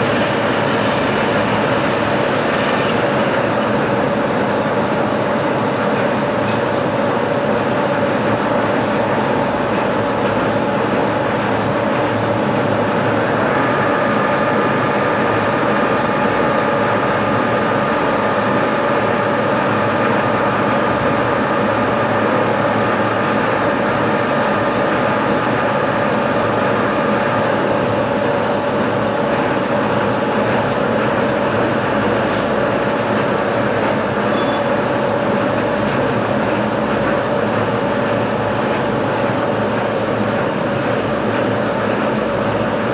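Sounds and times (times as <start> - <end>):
machine tool running with hum: 0.0 - 42.9.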